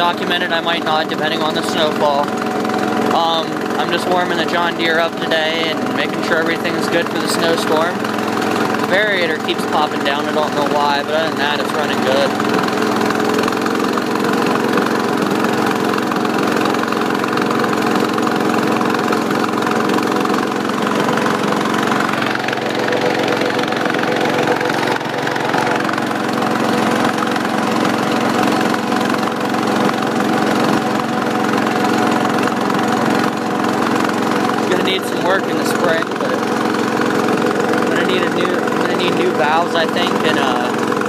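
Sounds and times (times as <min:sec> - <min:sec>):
garden tractor engine running: 0:00.0 - 0:41.0.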